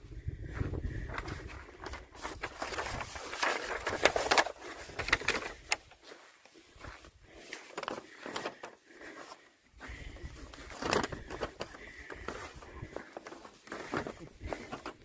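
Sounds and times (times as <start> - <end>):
footsteps: 0.5 - 15.0.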